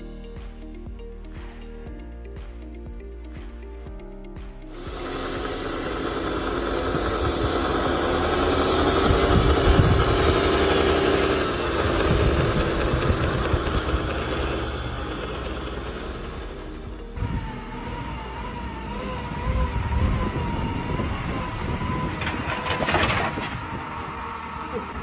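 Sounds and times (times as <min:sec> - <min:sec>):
steady mechanical whine: 0:04.6 - 0:25.0
diesel engine under load: 0:04.7 - 0:25.0.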